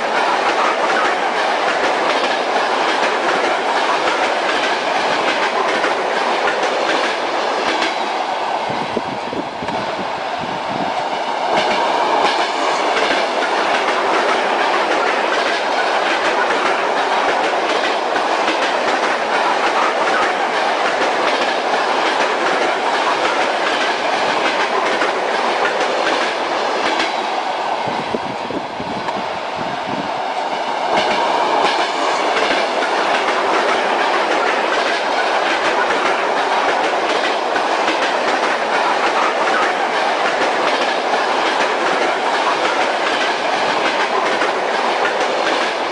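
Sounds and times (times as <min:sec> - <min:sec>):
train wheels clattering on rails: 0:00.0 - 0:28.4, 0:29.0 - 0:45.9.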